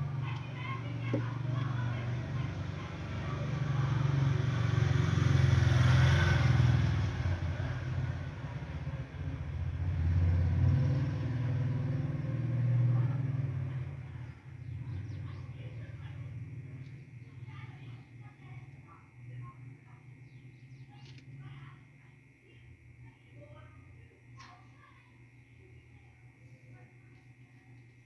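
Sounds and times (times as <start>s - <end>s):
vehicle engine rumble: 0.0s - 24.7s.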